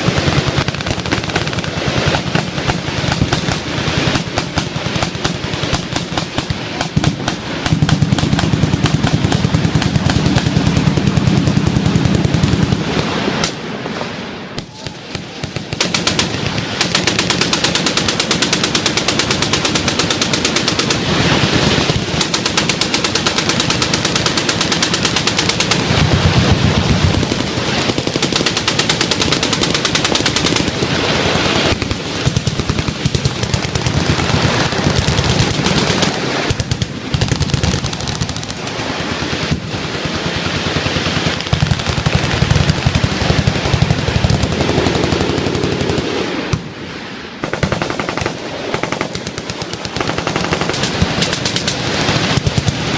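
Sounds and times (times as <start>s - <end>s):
machine gun fire: 0.0s - 13.6s, 15.0s - 46.6s, 47.4s - 52.9s.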